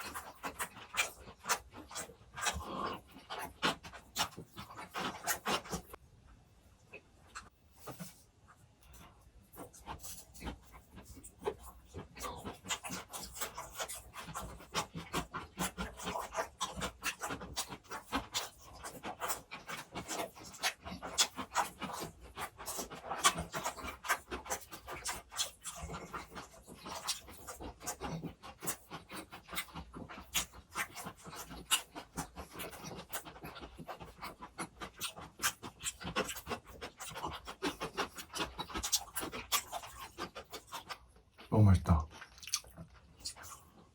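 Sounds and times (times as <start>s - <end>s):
wet chewing mouth sounds: 0.0s - 6.0s, 6.8s - 43.9s.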